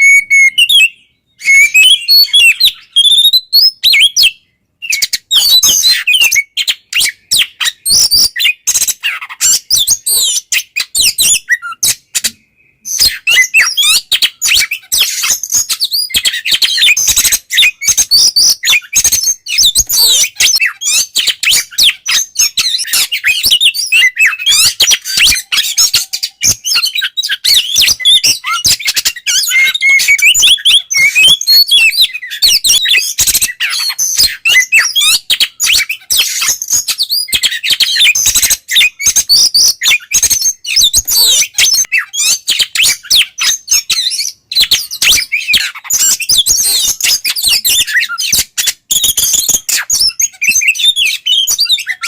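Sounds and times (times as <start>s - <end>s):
bird singing whistles and clicks: 0.0s - 52.0s.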